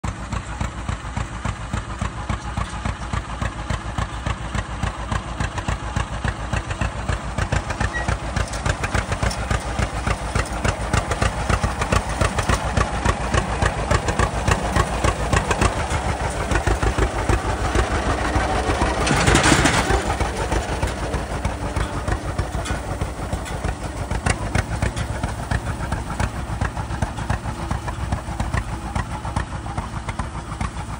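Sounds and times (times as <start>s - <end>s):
tractor engine pulsing exhaust: 0.0s - 30.9s.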